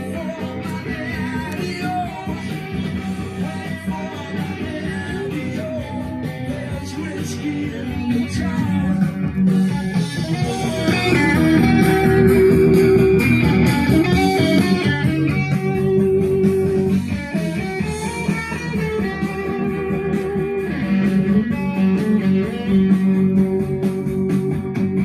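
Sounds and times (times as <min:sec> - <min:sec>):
electric guitar over bass: 0:00.0 - 0:25.0.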